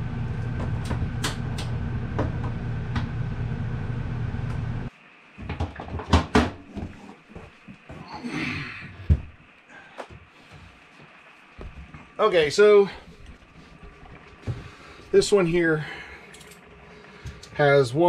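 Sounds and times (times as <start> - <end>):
mechanical hum with faint clicks: 0.0 - 18.0.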